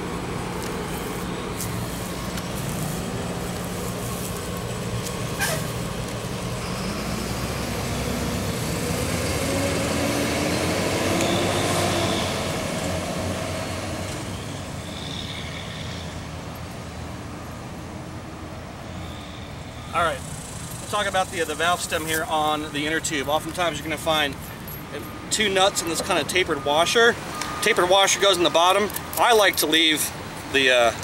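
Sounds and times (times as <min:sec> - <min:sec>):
heavy vehicle engine passing: 0:00.0 - 0:28.7
rumble of road traffic: 0:00.0 - 0:31.0.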